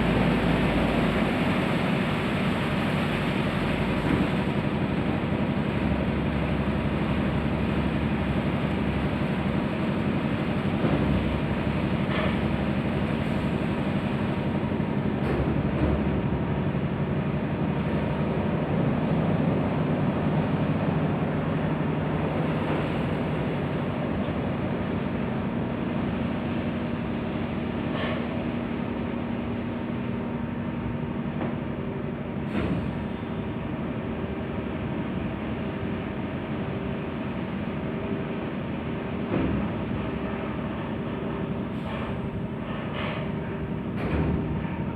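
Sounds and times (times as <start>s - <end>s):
car wash machinery: 0.0s - 44.9s.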